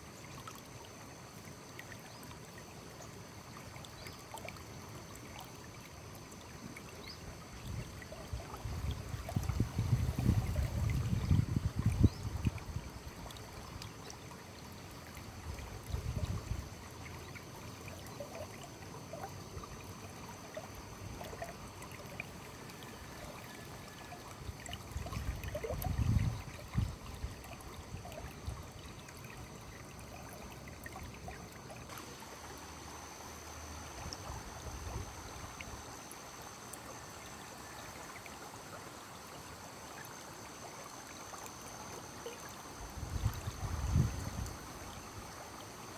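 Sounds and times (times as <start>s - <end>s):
stream running: 0.0s - 45.9s.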